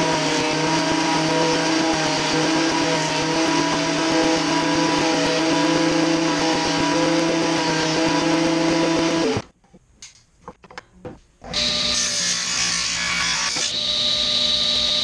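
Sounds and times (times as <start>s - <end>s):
thickness planer whining: 0.0s - 9.4s, 11.5s - 15.0s.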